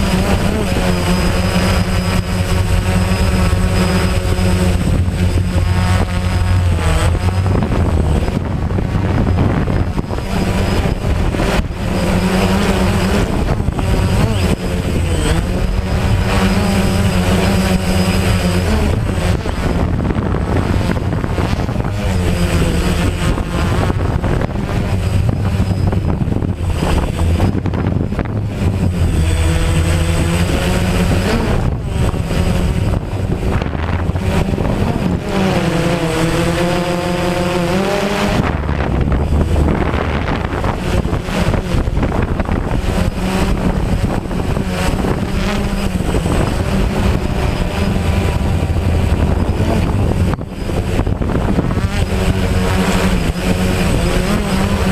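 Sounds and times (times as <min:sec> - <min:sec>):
drone propellers humming: 0:00.0 - 0:54.9
rushing wind: 0:00.0 - 0:54.9.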